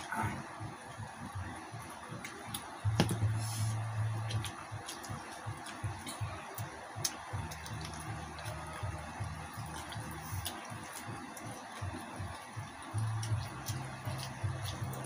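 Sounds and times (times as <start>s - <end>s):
low steady hum: 0.0s - 15.0s
rhythmic chewing: 0.0s - 15.0s.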